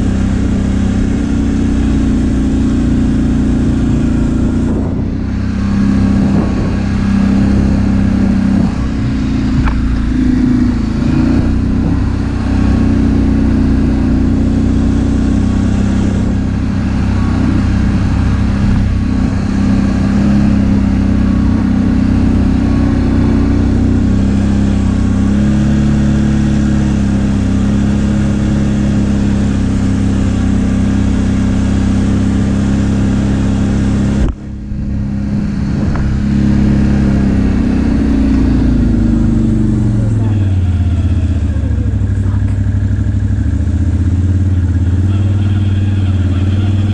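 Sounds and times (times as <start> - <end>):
atv engine running loudly: 0.0 - 46.9.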